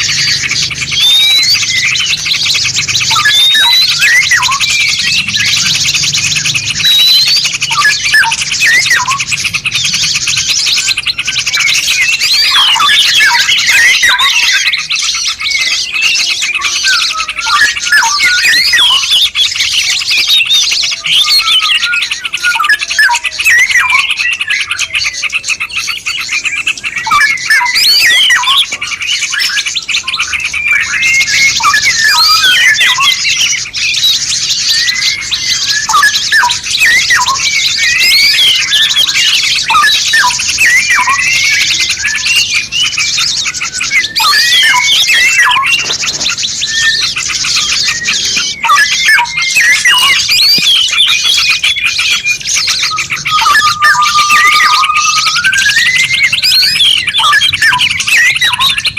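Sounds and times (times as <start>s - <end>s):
songbirds chirping and whistling: 0.0s - 58.9s.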